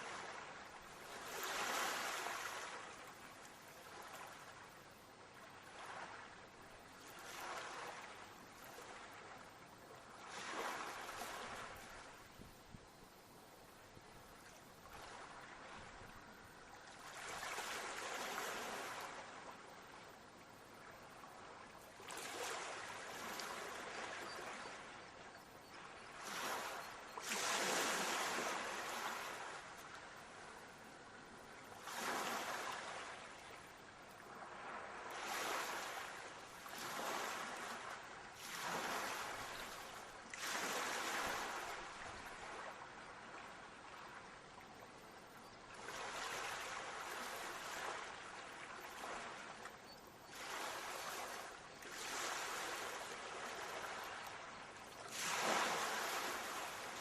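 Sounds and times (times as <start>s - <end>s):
sea waves breaking on shore: 0.0s - 9.4s, 10.0s - 13.3s, 14.0s - 20.2s, 20.8s - 45.0s, 45.7s - 57.0s.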